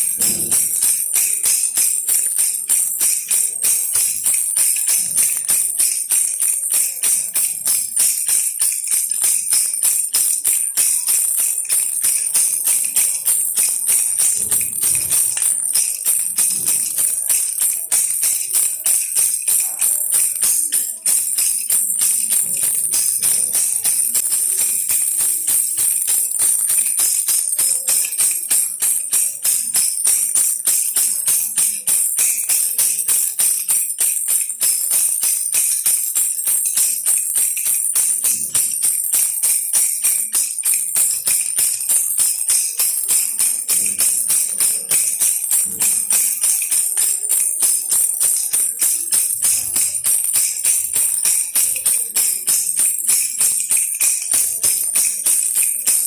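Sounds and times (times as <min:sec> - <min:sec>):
baby rattle jingling: 0:00.0 - 0:56.0.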